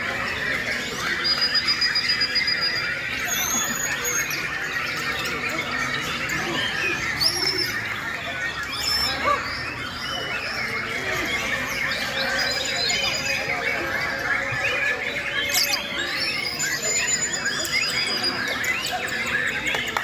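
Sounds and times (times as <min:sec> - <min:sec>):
birds singing and calling: 0:00.0 - 0:20.0.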